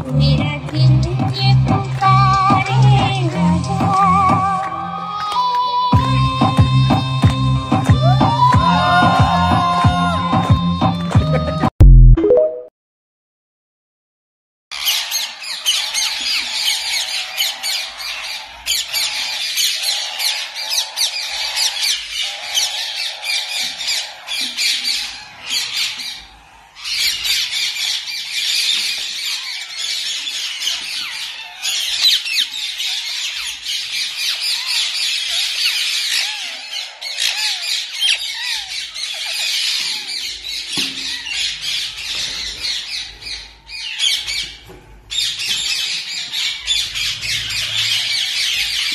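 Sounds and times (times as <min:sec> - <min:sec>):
birds chirping and squawking: 0:00.0 - 0:11.6, 0:14.7 - 0:48.9.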